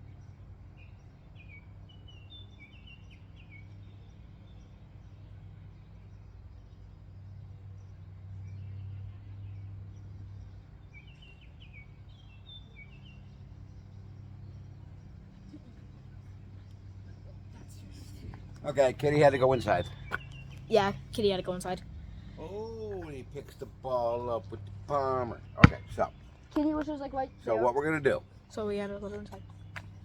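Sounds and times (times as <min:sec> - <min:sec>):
low outdoor hum: 0:00.0 - 0:30.0
songbird chirping: 0:00.0 - 0:30.0.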